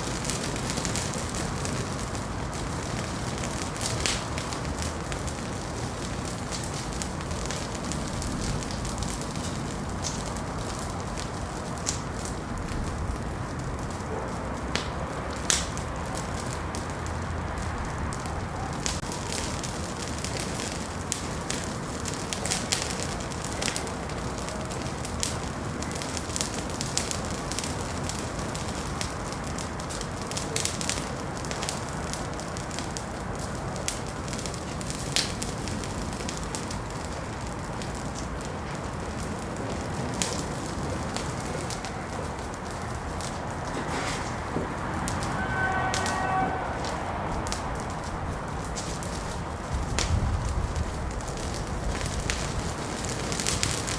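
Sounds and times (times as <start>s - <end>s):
fire crackling and popping: 0.0s - 53.9s
hiss of flames: 0.0s - 53.9s.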